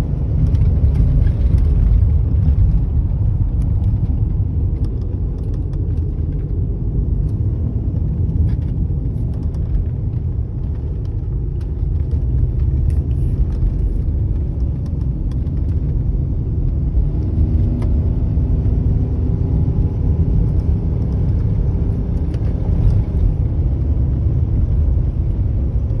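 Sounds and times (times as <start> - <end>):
car engine running under load: 0.0 - 26.0.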